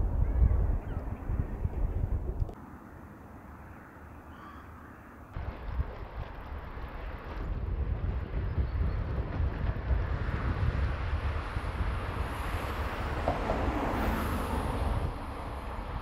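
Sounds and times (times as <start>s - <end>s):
wind buffeting microphone: 0.0s - 2.6s, 5.4s - 16.0s.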